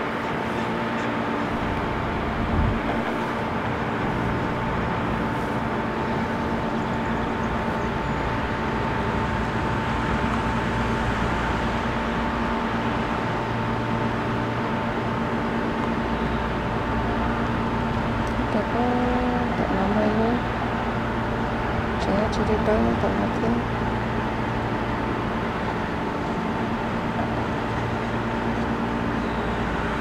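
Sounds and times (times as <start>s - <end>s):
constant hum: 0.0s - 30.0s
freight train rumble: 0.0s - 30.0s
road traffic: 0.0s - 30.0s.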